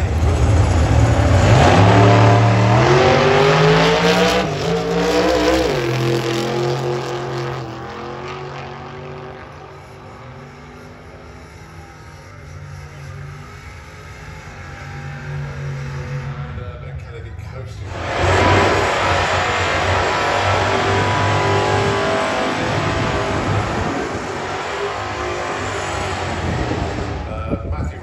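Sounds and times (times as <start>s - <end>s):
drag racing car accelerating: 0.0s - 28.0s.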